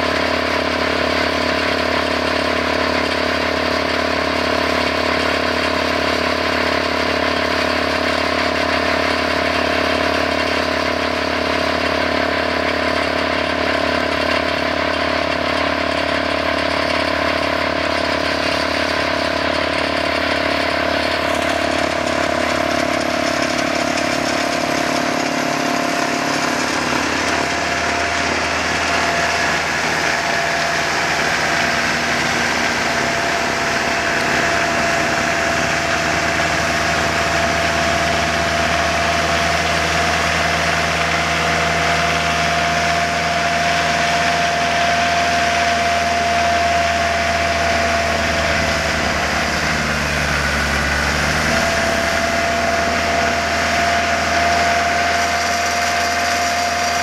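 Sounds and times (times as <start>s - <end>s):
snowblower throwing snow: 0.0s - 57.0s
steady whine: 0.0s - 57.0s
tractor diesel engine running: 0.0s - 57.0s.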